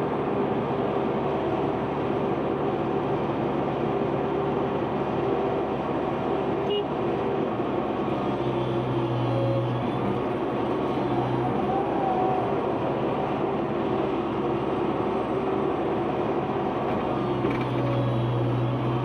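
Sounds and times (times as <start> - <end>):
heavy machinery diesel engine: 0.0 - 19.0.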